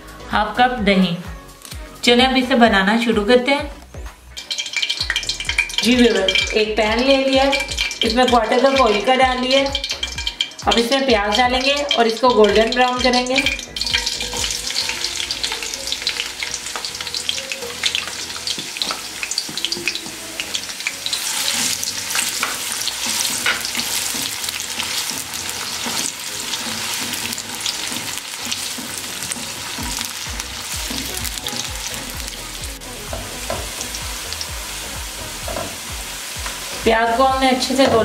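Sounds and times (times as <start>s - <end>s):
onions sizzling in hot oil: 4.2s - 38.0s.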